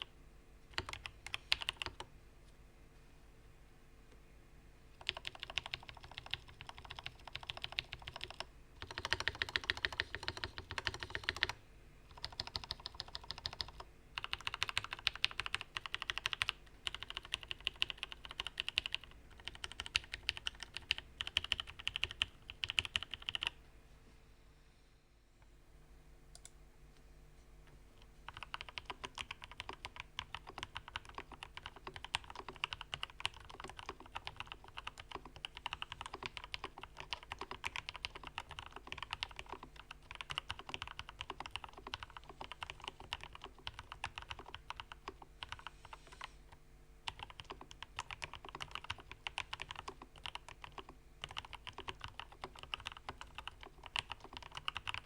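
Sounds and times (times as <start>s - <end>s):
typing on mechanical keyboard: 0.7s - 2.1s, 5.0s - 23.6s, 28.3s - 46.3s, 47.0s - 55.0s.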